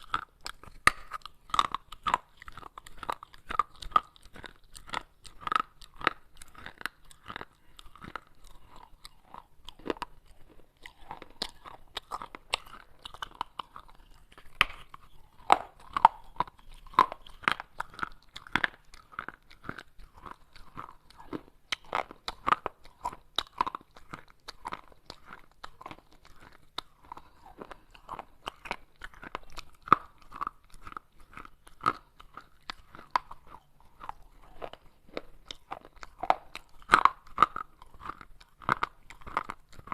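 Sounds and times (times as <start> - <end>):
person chewing clay pot: 0.0 - 39.9.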